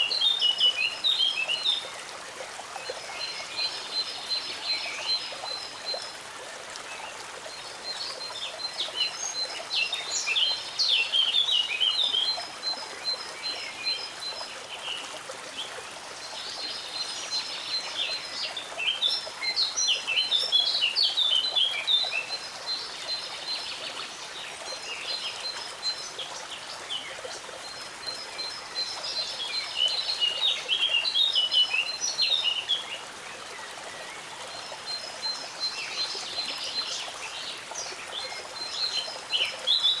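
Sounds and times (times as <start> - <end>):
songbird singing: 0.0 - 2.1, 6.8 - 40.0.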